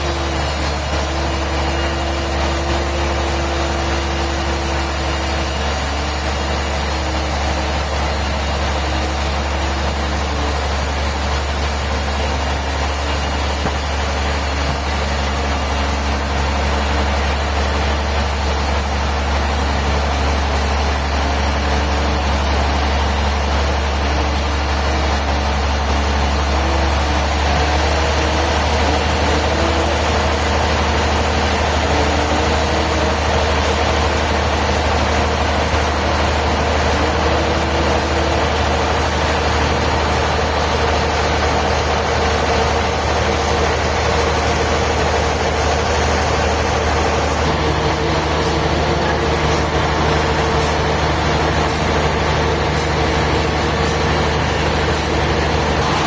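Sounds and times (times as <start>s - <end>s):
sawmill machinery humming: 0.0s - 56.0s
second low machine tone: 0.0s - 56.0s.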